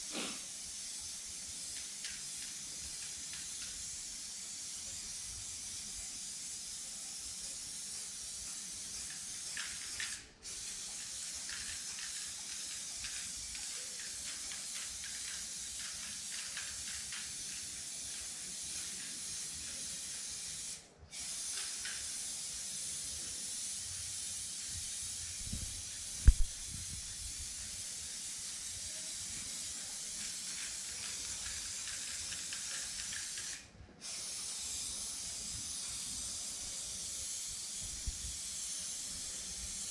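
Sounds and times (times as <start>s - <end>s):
spray paint can hissing: 0.0s - 39.9s.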